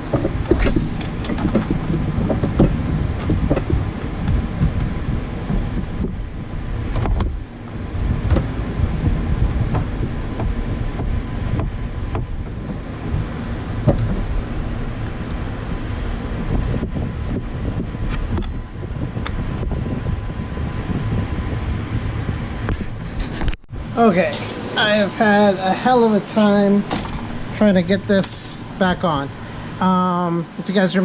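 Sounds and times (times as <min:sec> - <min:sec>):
wind rumble on microphone: 0:00.0 - 0:30.8.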